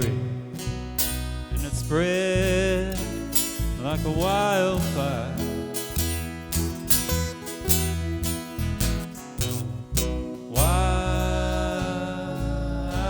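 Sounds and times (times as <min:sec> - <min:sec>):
strummed acoustic guitars: 0:00.0 - 0:13.0.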